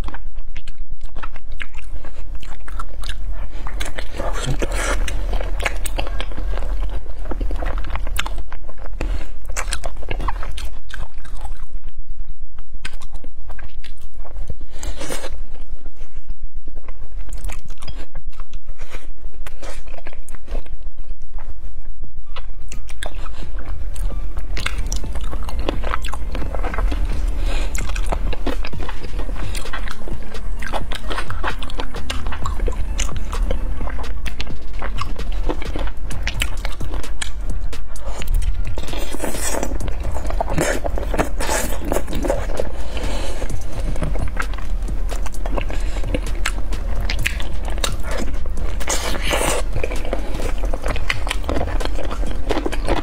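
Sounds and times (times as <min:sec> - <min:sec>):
wet crunching and chewing: 0:00.0 - 0:11.9, 0:12.6 - 0:15.6, 0:22.6 - 0:53.0.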